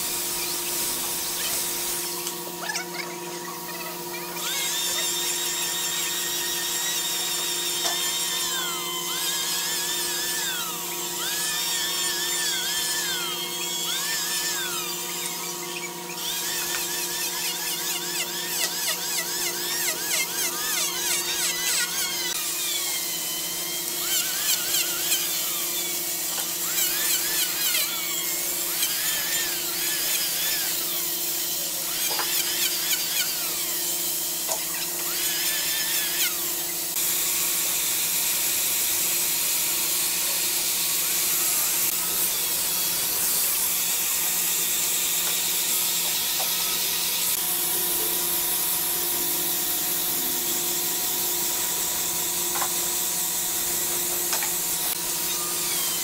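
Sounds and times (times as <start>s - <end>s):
electric planer cutting wood: 0.0s - 56.0s
power sander on wood: 0.0s - 56.0s.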